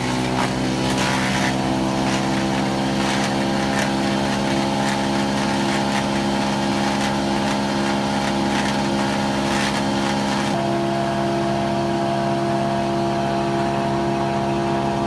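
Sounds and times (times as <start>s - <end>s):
wood chipper engine running: 0.0s - 15.0s.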